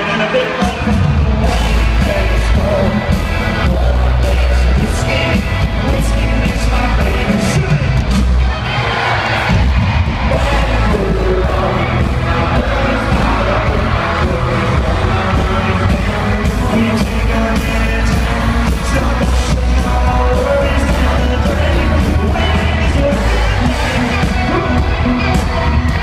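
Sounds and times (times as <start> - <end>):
lead singer singing: 0.0 - 8.6, 9.2 - 26.0
crowd noise: 0.0 - 26.0
live country band: 0.0 - 26.0.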